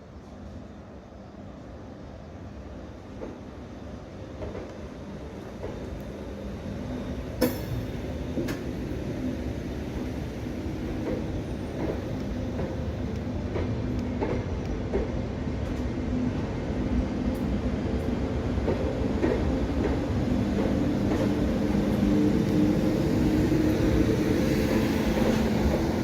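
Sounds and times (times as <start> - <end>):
train droning hum: 0.0 - 26.0.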